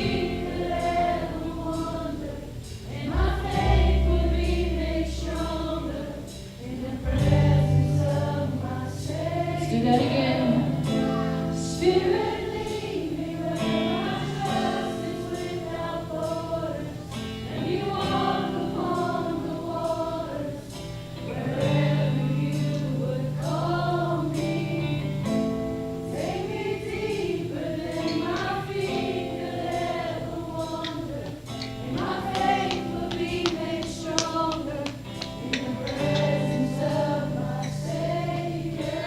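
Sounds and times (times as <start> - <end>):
voices singing: 0.0 - 39.0
worship band playing: 0.0 - 39.0.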